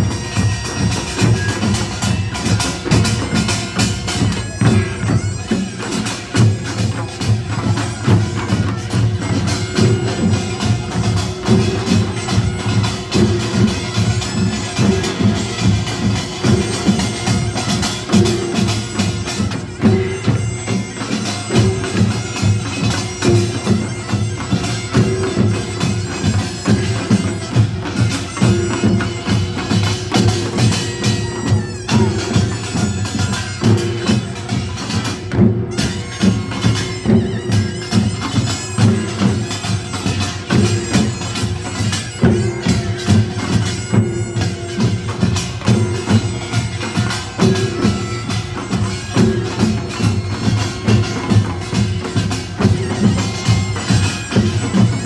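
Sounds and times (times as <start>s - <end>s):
gongs and drums beating: 0.0s - 55.0s
piercing nasal shawm melody: 0.0s - 55.0s.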